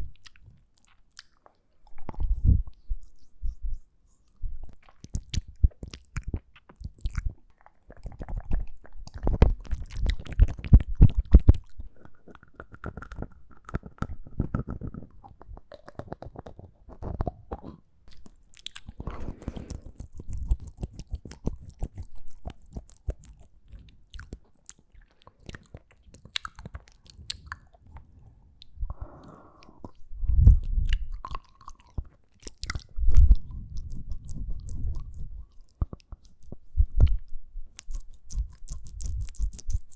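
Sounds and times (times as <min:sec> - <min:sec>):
wet mouth smacks and clicks: 0:00.1 - 0:27.8, 0:29.6 - 0:39.9.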